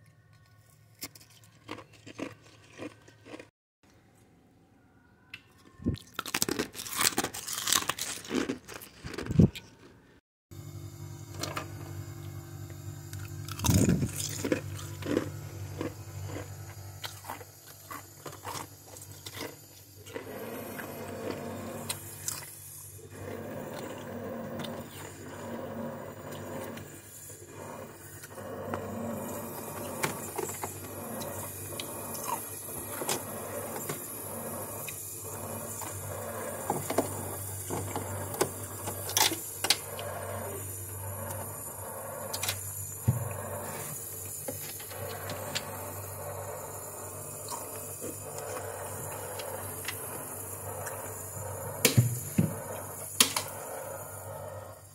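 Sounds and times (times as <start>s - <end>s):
steady low hum: 10.5s - 54.9s.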